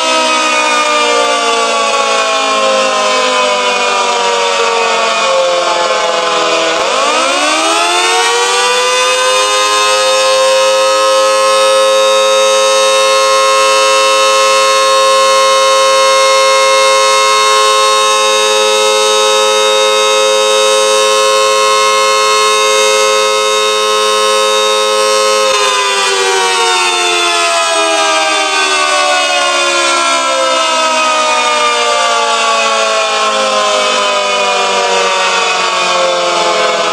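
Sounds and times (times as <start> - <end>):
outdoor warning siren wailing: 0.0 - 36.9.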